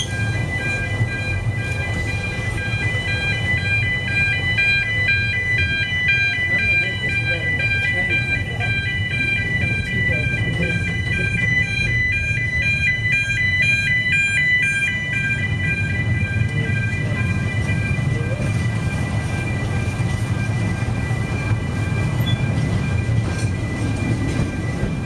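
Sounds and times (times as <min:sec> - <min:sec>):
electronic two-tone warning alarm: 0:00.0 - 0:25.0
train carriage rumbling on track: 0:00.0 - 0:25.0.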